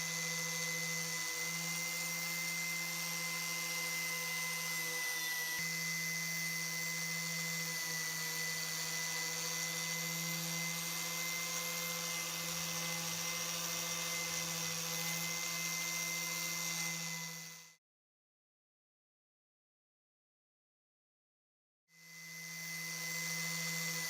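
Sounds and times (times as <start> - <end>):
electric power tool running: 0.0 - 17.8, 22.0 - 24.0.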